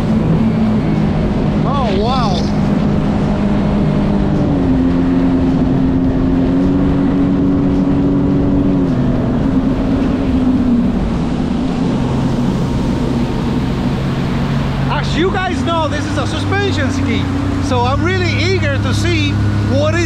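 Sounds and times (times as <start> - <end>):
personal watercraft engine: 0.0 - 20.0
steady rushing noise: 0.0 - 20.0.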